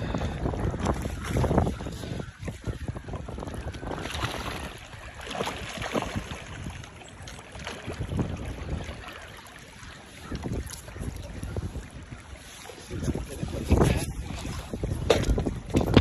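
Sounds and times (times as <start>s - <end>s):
wind buffeting microphone: 0.0s - 7.0s, 7.6s - 9.3s, 10.0s - 16.0s
river water rippling: 0.0s - 16.0s.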